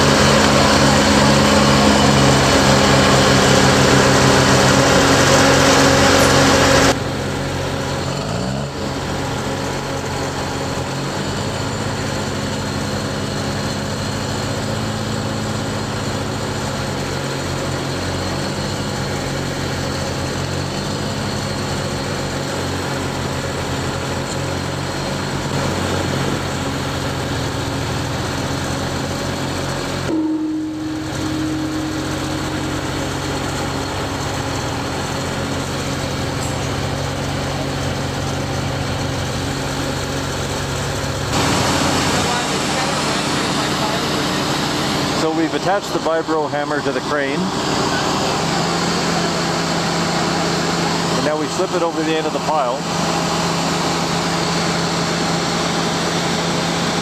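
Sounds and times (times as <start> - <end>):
crane diesel engine running: 0.0 - 57.0.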